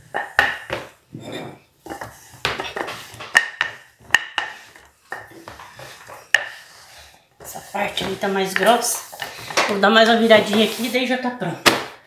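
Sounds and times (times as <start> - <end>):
dough rolling rustle: 0.0 - 11.3.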